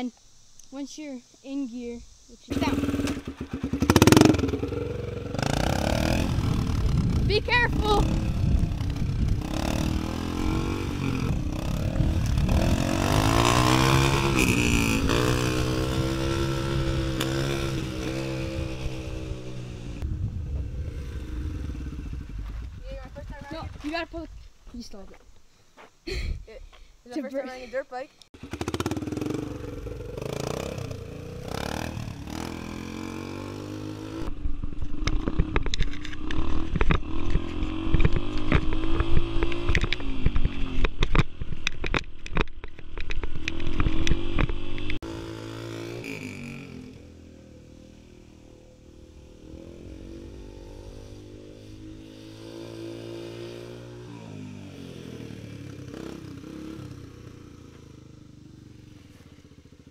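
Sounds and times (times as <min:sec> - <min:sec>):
dirt bike engine revving: 0:02.4 - 0:23.6, 0:28.4 - 0:34.4, 0:35.1 - 0:41.5, 0:43.2 - 0:59.9.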